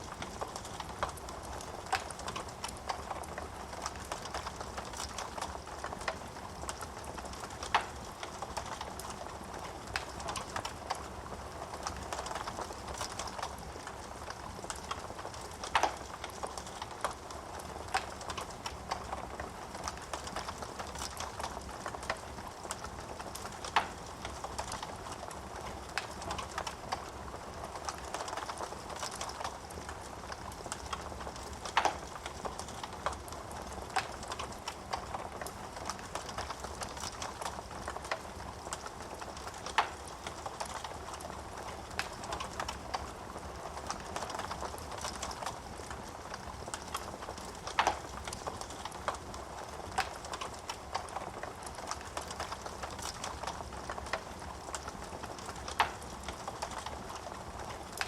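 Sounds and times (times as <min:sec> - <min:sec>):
loud fire snaps: 0:00.0 - 0:58.0
wood fire crackling: 0:00.0 - 0:58.0.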